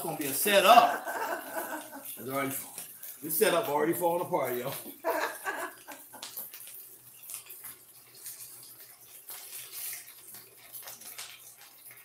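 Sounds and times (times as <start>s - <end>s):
patties sizzling in hot oil: 0.0s - 12.0s.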